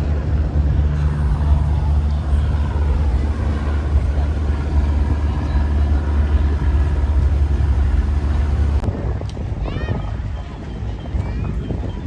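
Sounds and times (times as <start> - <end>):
faint voices: 0.0 - 12.0
low background rumble: 0.0 - 12.0.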